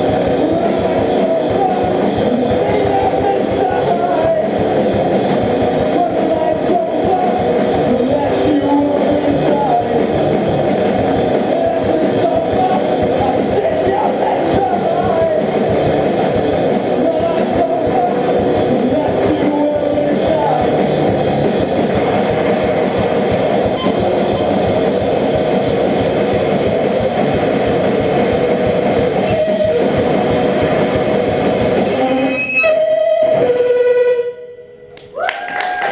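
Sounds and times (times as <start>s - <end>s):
live rock band with guitars: 0.0s - 35.9s.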